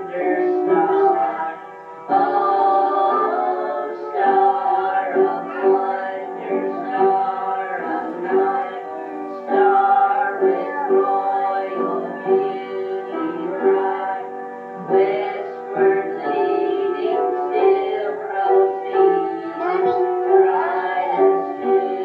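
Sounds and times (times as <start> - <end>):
slow song with held notes: 0.0 - 22.0.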